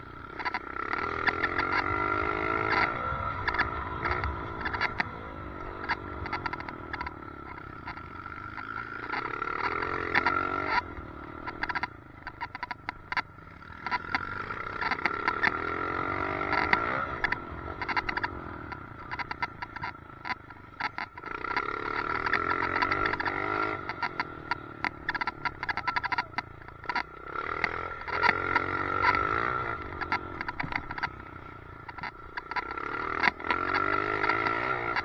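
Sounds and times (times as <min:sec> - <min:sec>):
motorcycle engine revving: 0:00.0 - 0:35.0
sharp rattling clicks: 0:00.1 - 0:35.0.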